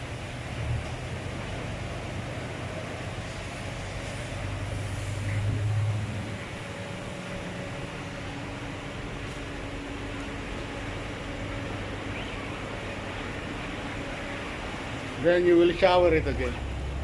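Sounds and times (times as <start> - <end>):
faint steady whine: 0.0 - 17.0
low machine hum: 0.0 - 17.0.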